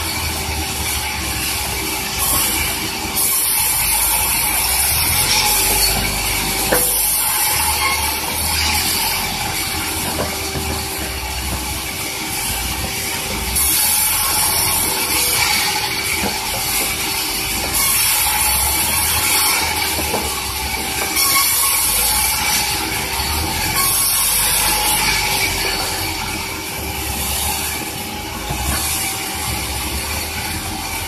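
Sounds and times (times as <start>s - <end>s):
sawmill saw cutting log: 0.0s - 31.0s.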